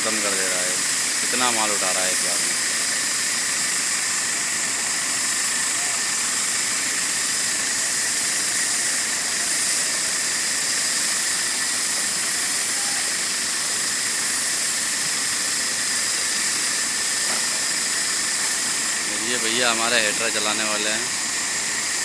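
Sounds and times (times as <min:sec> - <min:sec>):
machinery hiss: 0:00.0 - 0:22.0.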